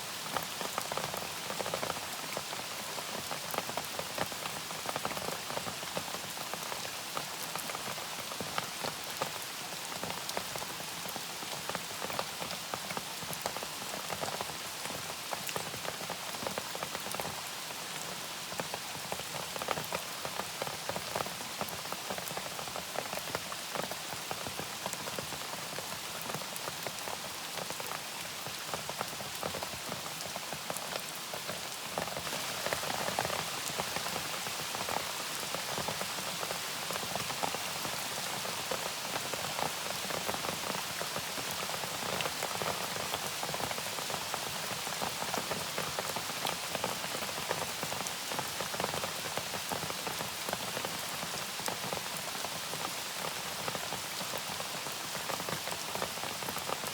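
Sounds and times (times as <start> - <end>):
raindrops ticking on a surface: 0.1 - 56.9.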